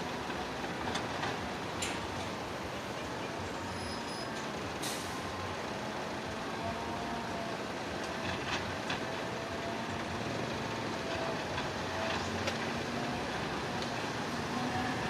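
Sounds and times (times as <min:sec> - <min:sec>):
heavy construction machinery running: 0:00.0 - 0:15.0.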